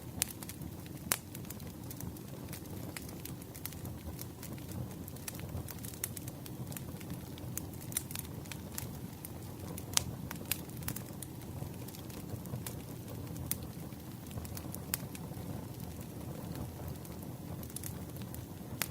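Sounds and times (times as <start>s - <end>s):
campfire crackling and popping: 0.0s - 18.9s
low rumble of burning wood: 0.0s - 18.9s.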